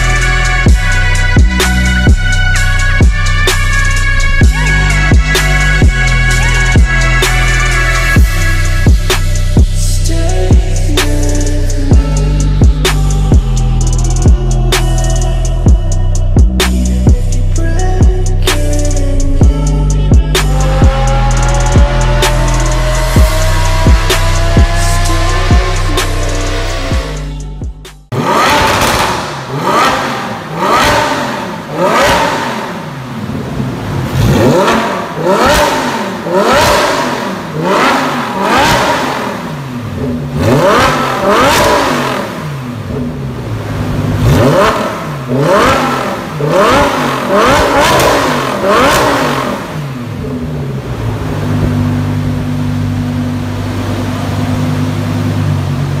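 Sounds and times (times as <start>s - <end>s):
car engine idling: 0.0s - 56.0s
car engine revving: 0.0s - 56.0s.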